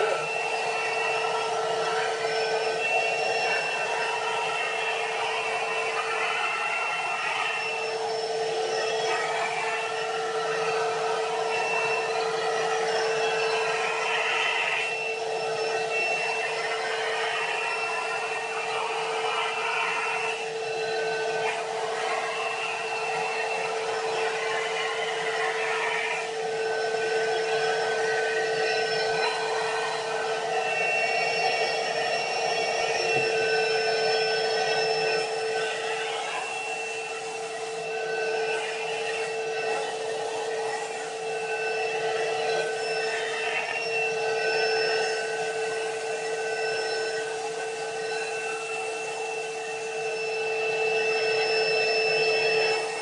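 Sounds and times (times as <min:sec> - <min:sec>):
vacuum cleaner sucking beads: 0:00.0 - 0:53.0.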